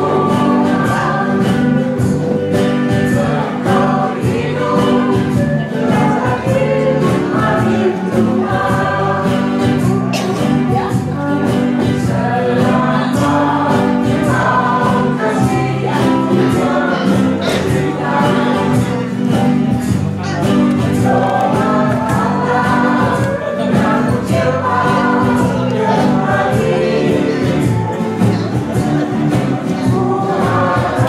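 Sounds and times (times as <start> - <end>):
choir singing: 0.0 - 31.0
live band playing: 0.0 - 31.0
percussion beat: 0.0 - 31.0
steel guitar: 0.0 - 31.0.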